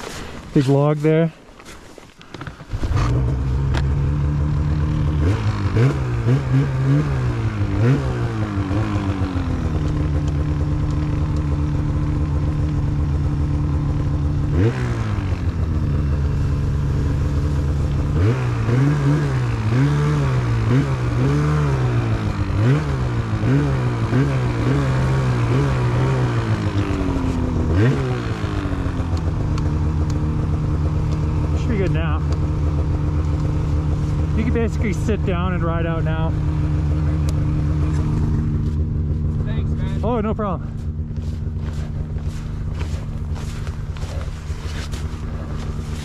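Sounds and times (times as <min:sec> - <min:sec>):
snowmobile engine revving: 0:02.5 - 0:46.0.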